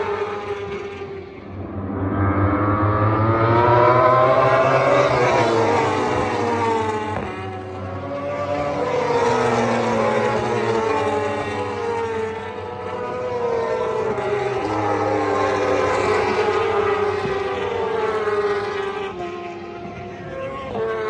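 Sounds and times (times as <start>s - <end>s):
racing motorcycles passing at high revs: 0.0s - 21.0s.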